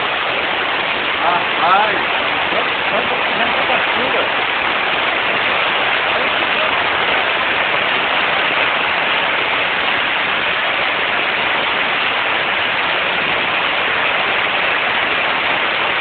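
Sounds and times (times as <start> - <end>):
rainwater pouring down a street: 0.0 - 16.0.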